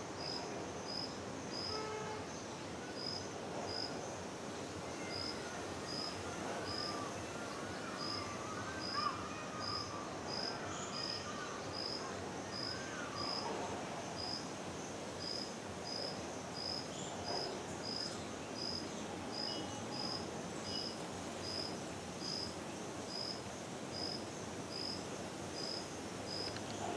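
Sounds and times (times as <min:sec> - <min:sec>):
outdoor background noise: 0:00.0 - 0:26.9.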